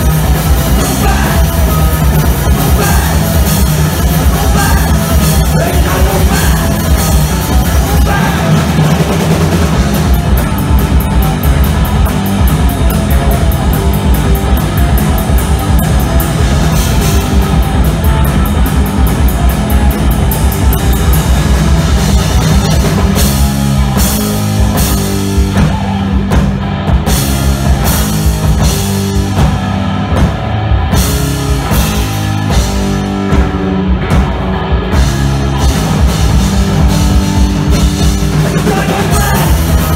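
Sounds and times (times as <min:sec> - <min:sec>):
bass guitar: 0:00.0 - 0:39.9
distorted electric guitar: 0:00.0 - 0:39.9
drum kit beat: 0:00.0 - 0:39.9.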